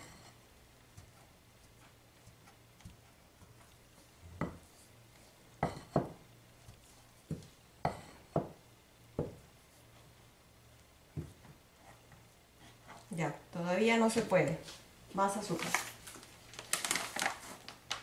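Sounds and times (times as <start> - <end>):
wooden spoon stirring dough: 0.0 - 14.8.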